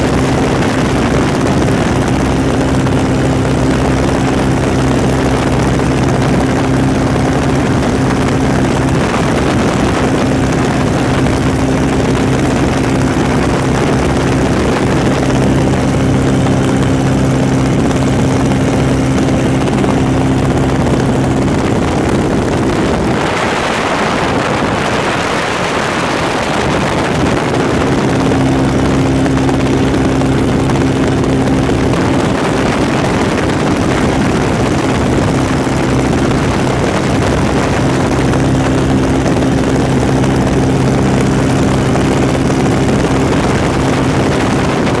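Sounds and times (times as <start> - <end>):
heavy wind noise: 0.0 - 45.0
propeller engine hum: 0.0 - 45.0.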